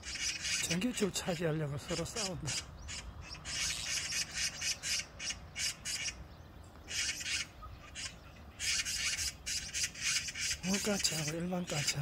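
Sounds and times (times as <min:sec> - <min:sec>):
magpies harsh raspy calls: 0:00.0 - 0:12.0.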